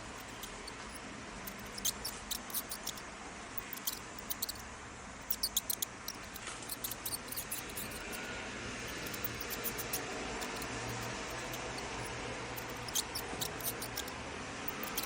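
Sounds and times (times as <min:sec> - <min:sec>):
mouse squeaking: 0:00.0 - 0:04.6, 0:05.2 - 0:15.0.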